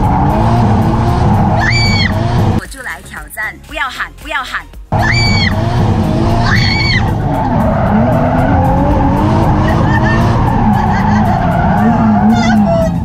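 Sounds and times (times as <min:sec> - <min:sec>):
car engine revving: 0:00.0 - 0:02.6, 0:04.9 - 0:13.0
tyres skidding: 0:00.0 - 0:02.6, 0:04.9 - 0:13.0.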